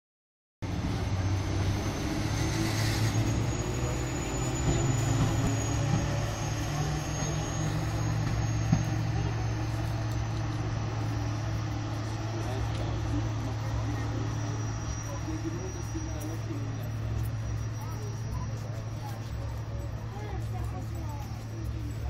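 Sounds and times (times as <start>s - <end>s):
engine humming: 0.6s - 22.0s
faint high whine: 0.9s - 22.0s.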